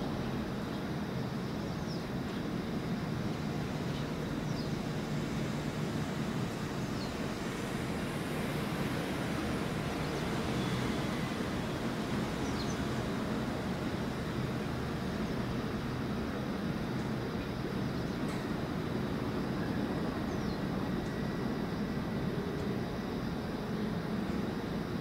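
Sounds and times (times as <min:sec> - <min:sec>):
ship engine rumbling drone: 0:00.1 - 0:24.9.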